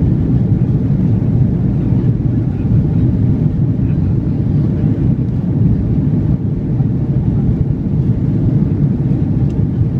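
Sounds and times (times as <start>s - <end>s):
jet engines at climb power: 0.0s - 9.9s.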